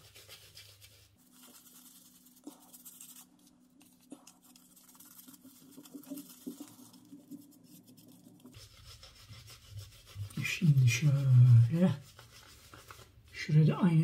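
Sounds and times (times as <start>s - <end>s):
shaving brush bristle strokes: 0.0s - 13.4s.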